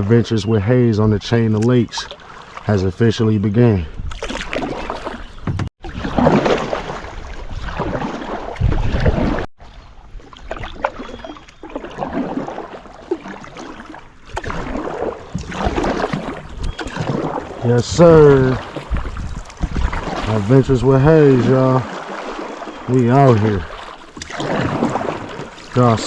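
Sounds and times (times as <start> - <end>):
paddle swishing through water: 1.1 - 26.0.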